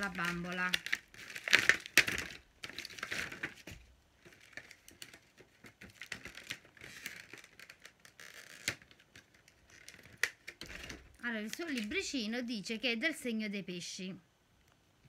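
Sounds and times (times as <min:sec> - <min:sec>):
plastic bags crinkling: 0:00.0 - 0:12.3.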